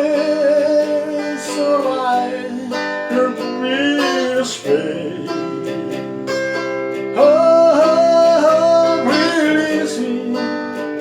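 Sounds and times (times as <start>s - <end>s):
guitar chords: 0.0s - 11.0s
person singing: 0.0s - 11.0s.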